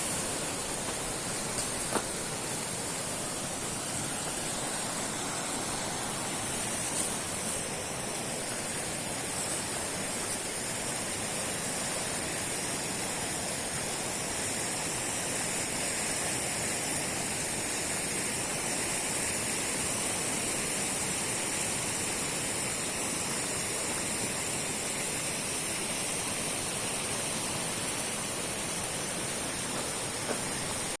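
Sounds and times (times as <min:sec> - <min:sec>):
fast river rushing: 0:00.0 - 0:31.0.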